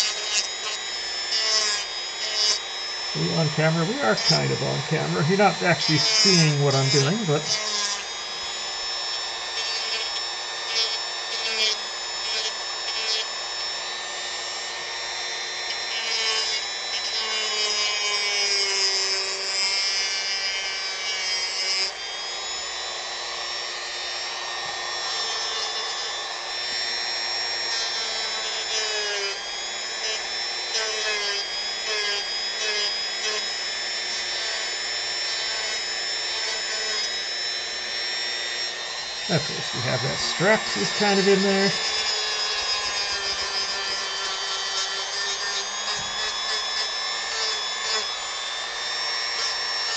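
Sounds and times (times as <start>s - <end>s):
rotary tool whining on wood: 0.0s - 49.9s.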